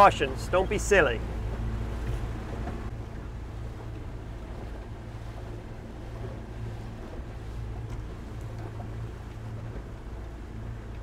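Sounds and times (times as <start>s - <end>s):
outboard motor running: 0.0s - 11.0s
water rushing: 0.0s - 11.0s.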